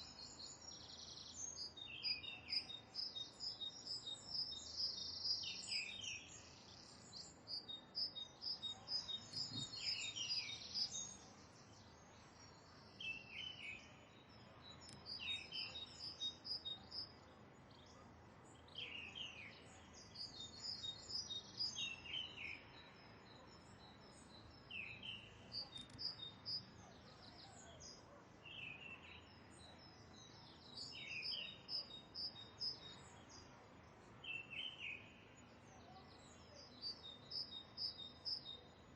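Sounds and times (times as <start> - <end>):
faint outdoor hiss: 0.0 - 38.9.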